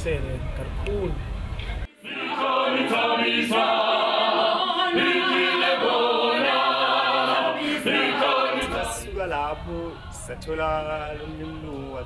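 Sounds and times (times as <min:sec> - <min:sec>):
choir singing in harmony: 0:01.9 - 0:12.0.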